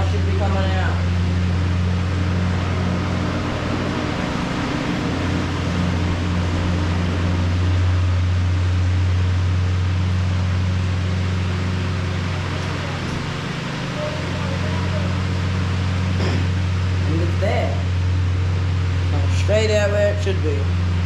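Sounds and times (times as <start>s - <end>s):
low mechanical hum with hiss: 0.0s - 21.0s.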